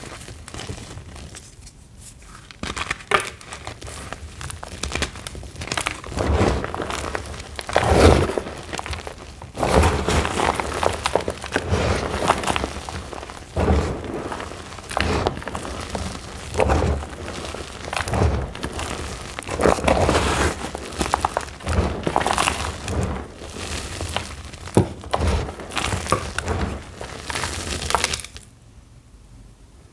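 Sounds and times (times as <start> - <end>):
chalk blocks crunching: 0.0 - 28.5.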